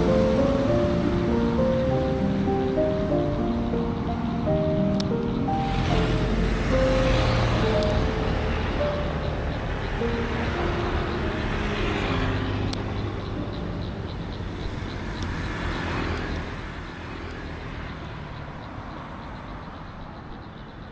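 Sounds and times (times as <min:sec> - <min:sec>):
passing vehicles: 0:00.0 - 0:20.9.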